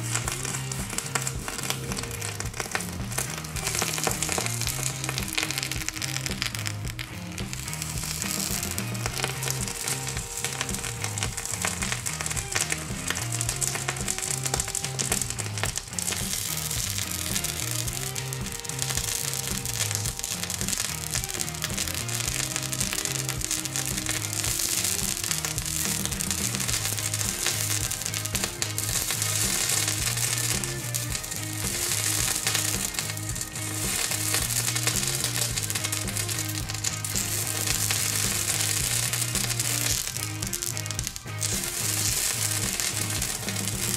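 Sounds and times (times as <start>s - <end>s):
background music with beat: 0.0s - 43.9s
hot metal ball sizzling: 0.0s - 43.9s.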